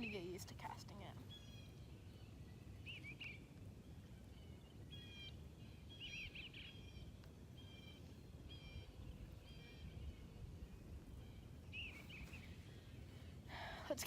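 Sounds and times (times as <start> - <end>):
birds chirping: 0.0 - 14.0
low background rumble: 0.0 - 14.0.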